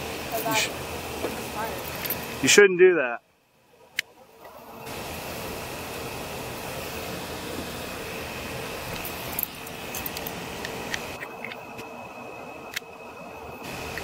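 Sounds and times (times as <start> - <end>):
steady hiss and hum: 0.0 - 14.0.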